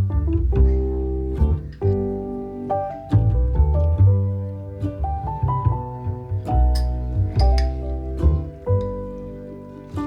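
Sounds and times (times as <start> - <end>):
deep bass: 0.0 - 10.0
piano: 0.0 - 10.0
plucked strings: 0.0 - 10.0.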